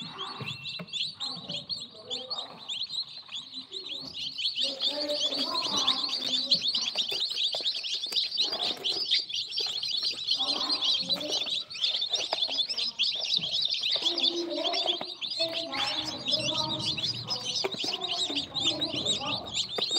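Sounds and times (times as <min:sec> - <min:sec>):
baby birds chirping: 0:00.0 - 0:19.9.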